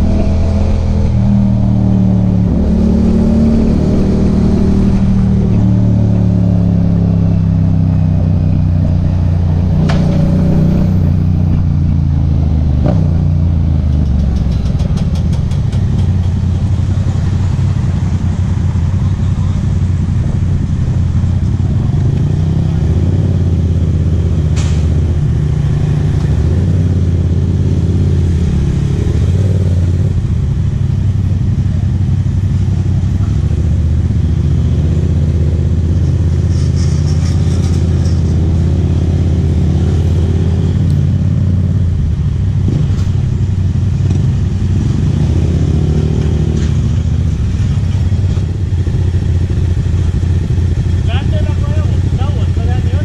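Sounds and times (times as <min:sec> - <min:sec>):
motorcycle engine cruising: 0:00.0 - 0:53.0.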